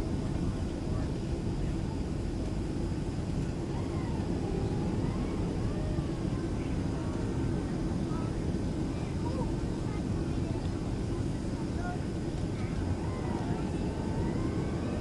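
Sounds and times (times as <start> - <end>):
airliner cabin roar: 0.0 - 15.0
faint voices: 0.0 - 15.0.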